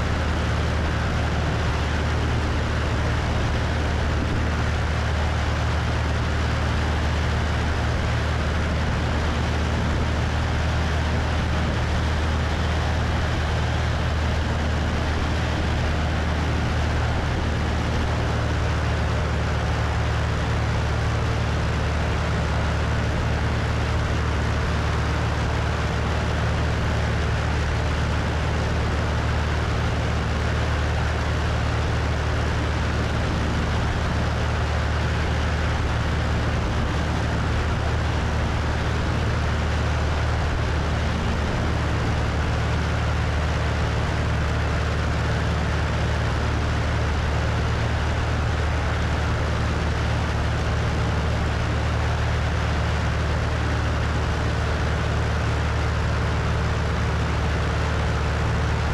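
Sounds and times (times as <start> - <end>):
airplane engine drone: 0.0 - 58.9.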